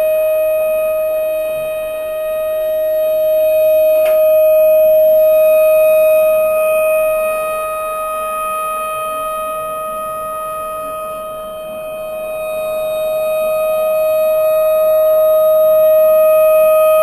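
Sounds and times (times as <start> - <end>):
tornado siren through small speaker: 0.0 - 17.0.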